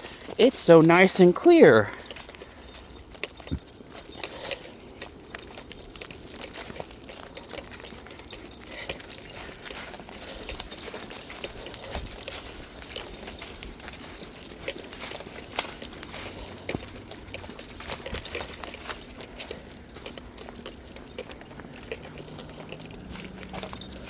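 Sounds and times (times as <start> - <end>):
footsteps on gravel: 0.0 - 24.0
light metallic jingling: 0.0 - 24.0.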